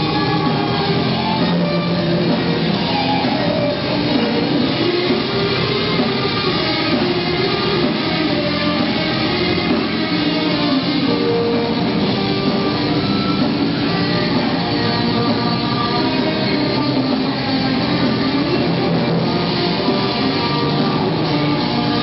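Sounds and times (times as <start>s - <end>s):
bass guitar: 0.0s - 22.0s
drums: 0.0s - 22.0s
electric guitar: 0.0s - 22.0s.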